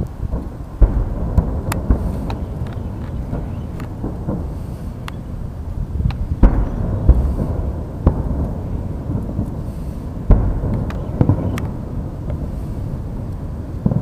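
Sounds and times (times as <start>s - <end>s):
continuous low rumble: 0.0s - 14.0s
faint fireworks crackles: 0.0s - 14.0s
fireworks booming: 0.0s - 14.0s.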